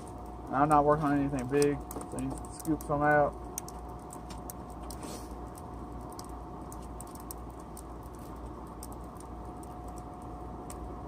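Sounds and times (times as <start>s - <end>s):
coal fire crackling: 0.0s - 11.0s
forge air blower humming: 0.0s - 11.0s.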